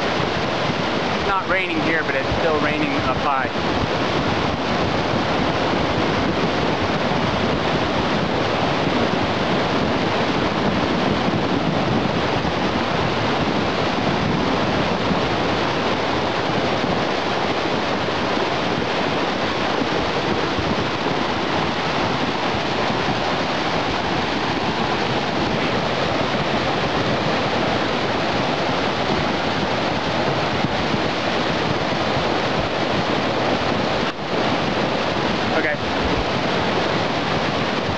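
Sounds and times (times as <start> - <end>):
floodwater rushing down a streambed: 0.0 - 37.9.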